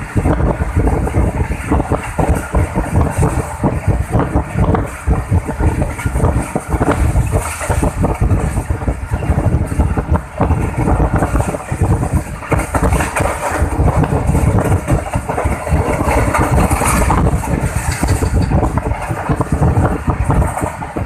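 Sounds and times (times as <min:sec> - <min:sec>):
train rumble: 0:00.0 - 0:21.0
wheels clattering on rails: 0:00.0 - 0:21.0.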